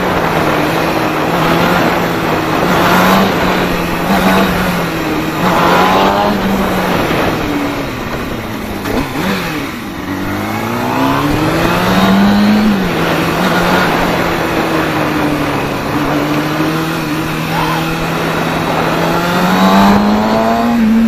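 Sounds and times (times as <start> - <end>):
motorcycle engine accelerating: 0.0 - 21.0
rushing wind noise: 0.0 - 21.0.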